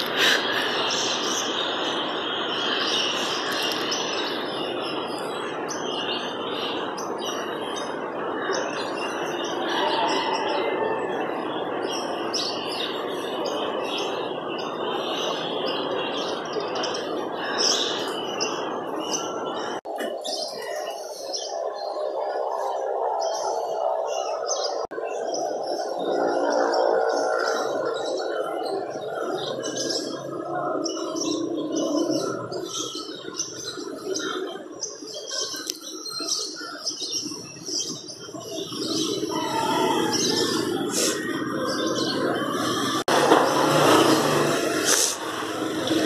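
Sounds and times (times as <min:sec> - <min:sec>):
small birds chirping: 0:00.0 - 0:10.0, 0:11.5 - 0:43.2
steady noisy background: 0:00.0 - 0:46.0.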